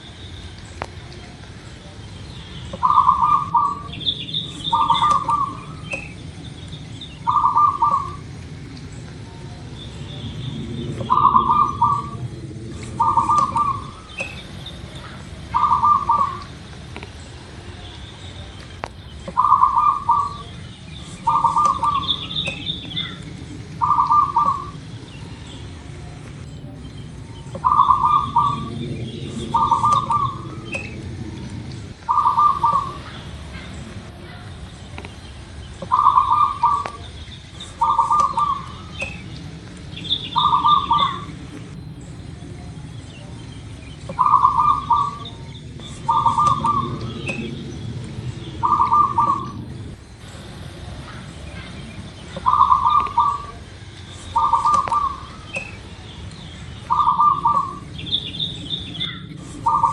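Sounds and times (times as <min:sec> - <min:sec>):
low steady rumble: 0:00.0 - 0:59.9
dove trilled cooing: 0:02.7 - 0:08.6, 0:09.3 - 0:17.7, 0:19.2 - 0:25.9, 0:26.6 - 0:34.5, 0:35.5 - 0:43.0, 0:43.8 - 0:59.9.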